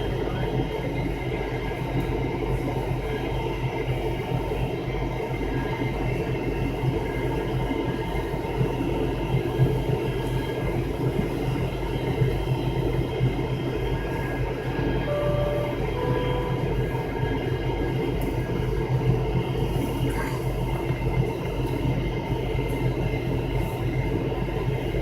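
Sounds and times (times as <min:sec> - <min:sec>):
airliner cabin engine drone: 0:00.0 - 0:25.0.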